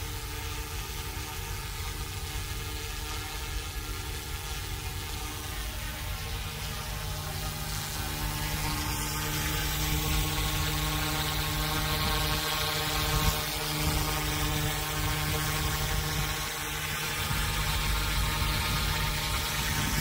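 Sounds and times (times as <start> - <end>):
rc helicopter whirring: 0.0 - 20.0.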